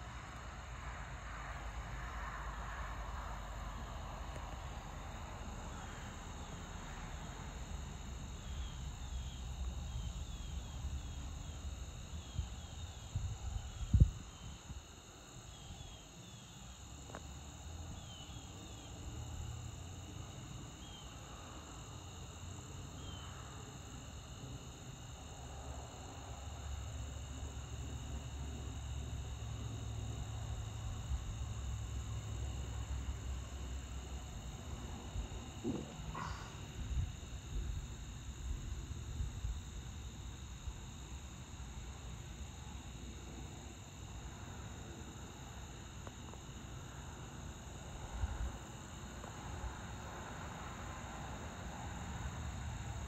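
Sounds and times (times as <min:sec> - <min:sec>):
crickets and insects trilling: 0:00.0 - 0:53.0.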